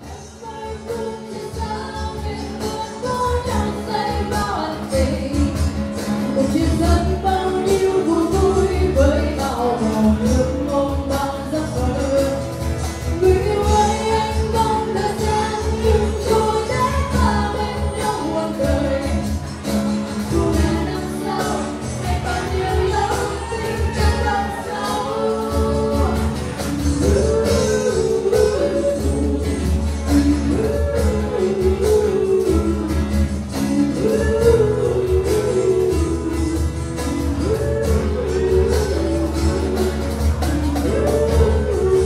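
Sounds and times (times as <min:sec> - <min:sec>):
electric guitar: 0:00.0 - 0:42.0
steady drum beat: 0:00.0 - 0:42.0
woman singing: 0:00.0 - 0:42.0.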